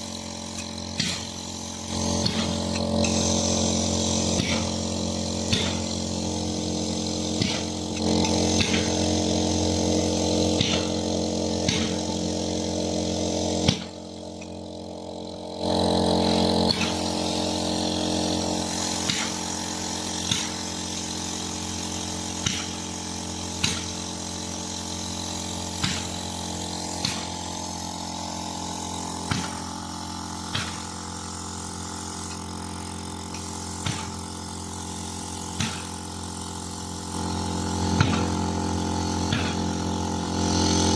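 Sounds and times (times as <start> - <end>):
machinery droning: 0.0 - 34.8
sharp machine clicks: 0.0 - 40.9.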